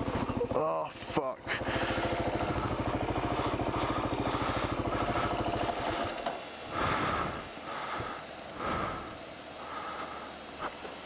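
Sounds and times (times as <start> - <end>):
motorcycle engine idling: 0.0 - 11.0
person breathing heavily: 1.4 - 10.8.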